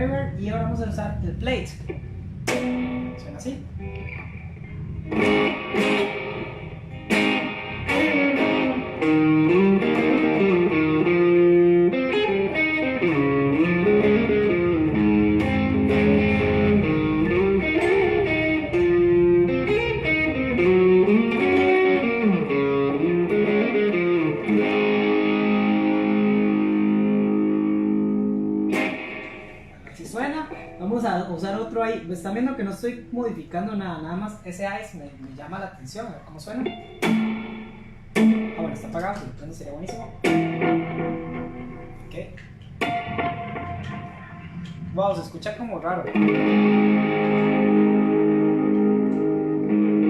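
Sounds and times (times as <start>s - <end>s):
electric guitar with reverb: 0.0s - 33.5s, 36.5s - 50.0s.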